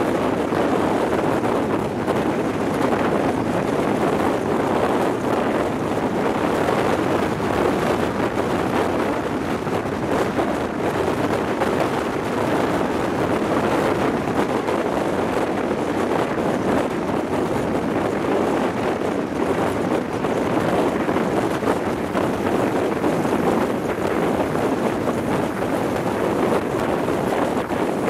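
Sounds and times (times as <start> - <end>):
train running noise: 0.0 - 28.0
wind buffeting microphone: 0.0 - 28.0.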